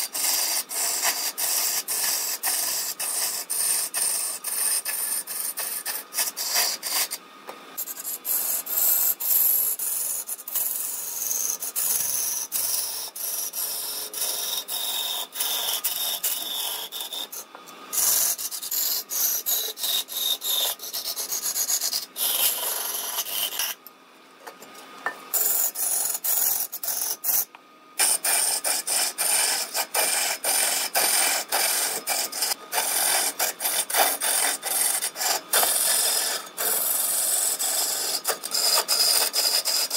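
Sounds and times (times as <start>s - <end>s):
chisel cutting wood on lathe: 0.0s - 7.2s, 7.8s - 23.8s, 28.0s - 39.9s.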